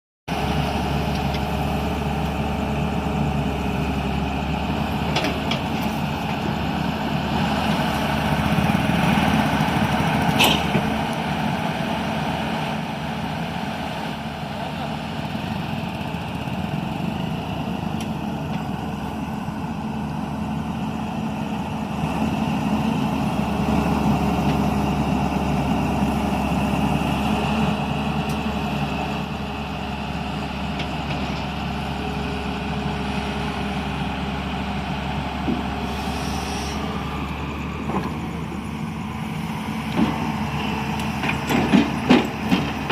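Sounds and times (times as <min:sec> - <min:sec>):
excavator diesel engine running: 0:00.3 - 0:42.9.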